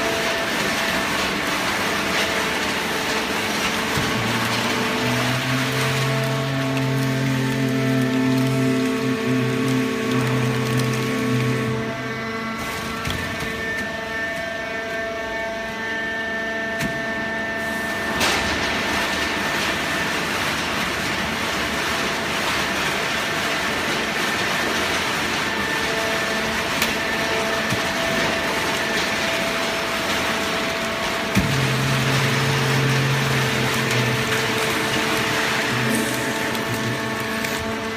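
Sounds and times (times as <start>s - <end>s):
hydraulic baling press humming: 0.0s - 37.9s.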